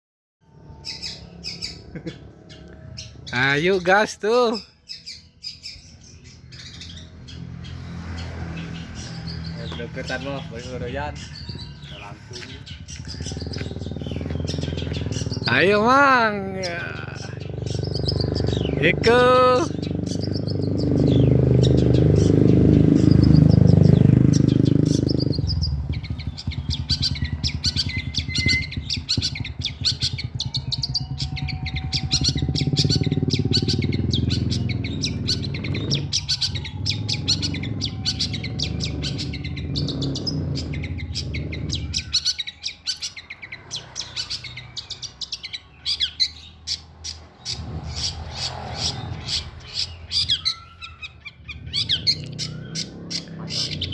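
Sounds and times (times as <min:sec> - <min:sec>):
bird chattering harsh chirps: 0:00.8 - 0:53.9.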